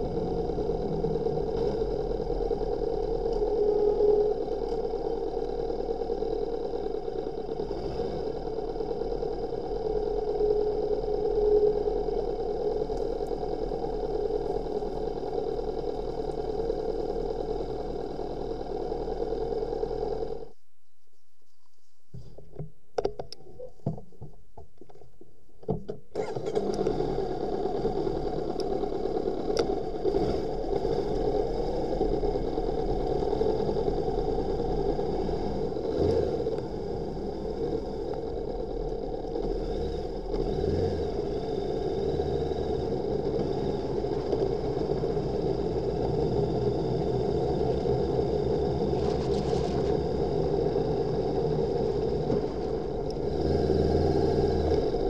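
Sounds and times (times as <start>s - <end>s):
motorcycle engine running: 0.0s - 20.5s, 26.2s - 55.0s.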